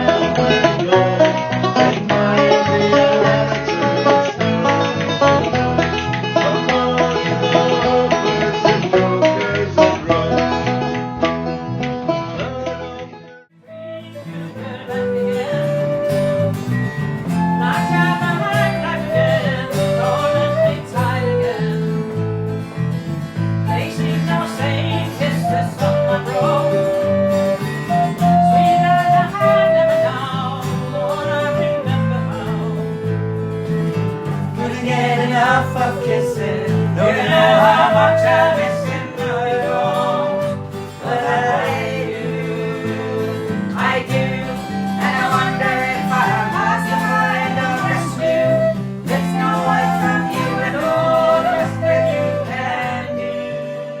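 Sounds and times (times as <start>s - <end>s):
acoustic guitar strumming: 0.0s - 54.0s
held-note folk melody: 0.0s - 54.0s.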